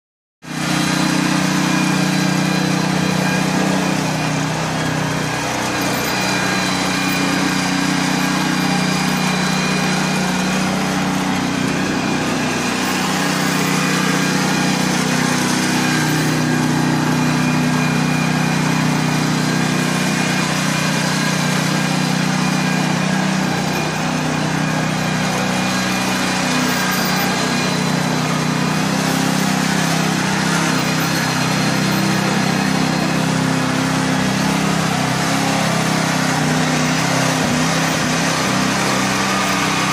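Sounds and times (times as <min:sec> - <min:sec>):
small engine running: 0:00.4 - 0:39.9.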